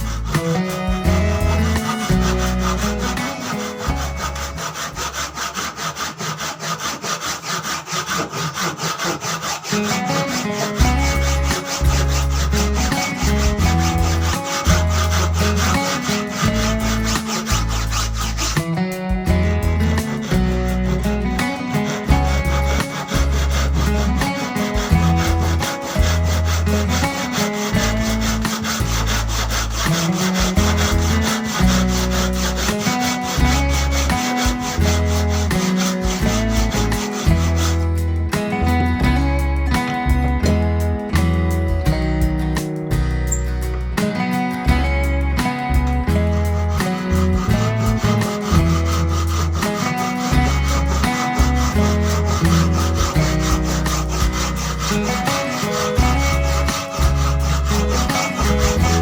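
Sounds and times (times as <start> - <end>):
music with deep bass and beat: 0.0 - 5.5, 10.4 - 59.0
saw cutting through wood: 0.0 - 40.6, 44.0 - 59.0.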